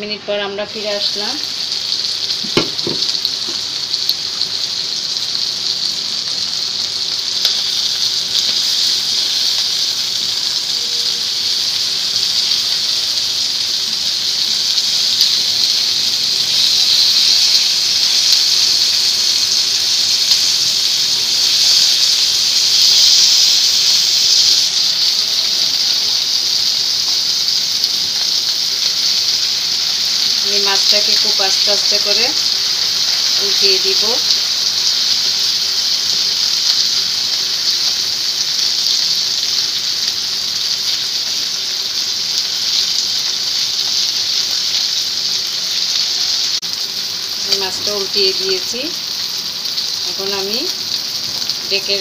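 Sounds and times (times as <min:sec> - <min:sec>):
fish and onions sizzling in oil: 0:00.0 - 0:52.0.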